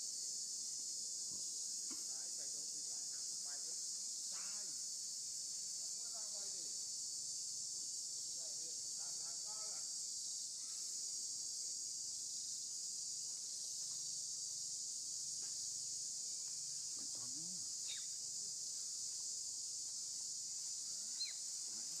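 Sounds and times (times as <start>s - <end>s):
insect chorus buzzing: 0.0s - 22.0s.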